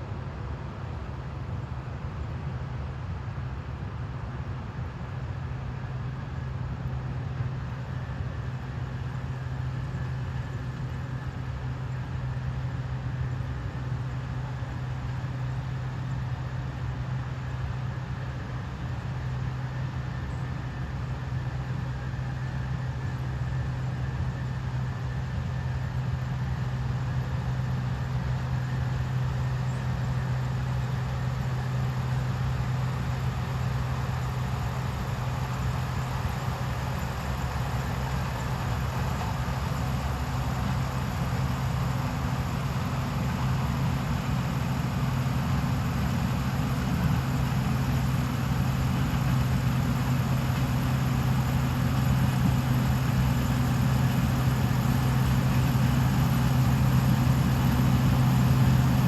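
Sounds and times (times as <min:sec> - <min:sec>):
harvesting machine engine drone: 0:00.0 - 0:59.0.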